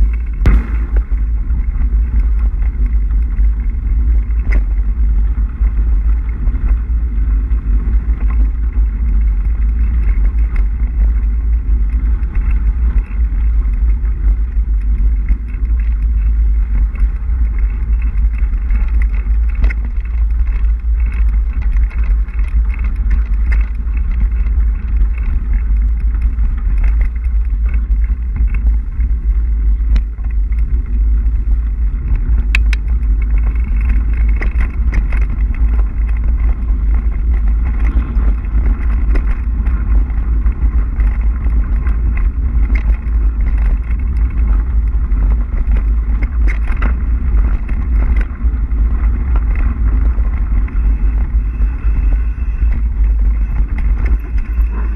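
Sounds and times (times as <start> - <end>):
bike clicks and rattles: 0.0 - 54.9
tyres on dirt: 0.0 - 54.9
wind buffeting microphone: 0.0 - 54.9.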